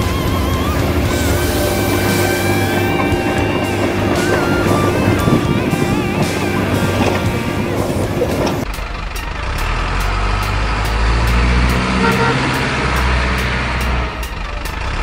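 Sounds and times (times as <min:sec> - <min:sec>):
background music: 0:00.0 - 0:15.0
diesel truck engine droning: 0:00.0 - 0:15.0.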